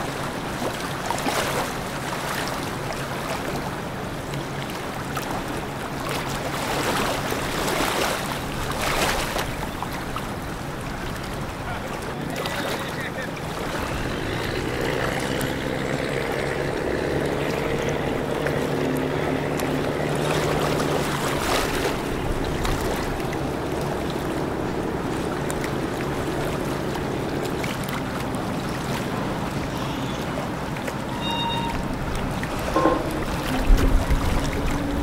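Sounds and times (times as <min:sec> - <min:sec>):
motorboat engine humming: 0:00.0 - 0:35.0
rushing water: 0:00.0 - 0:35.0
wind: 0:00.0 - 0:35.0.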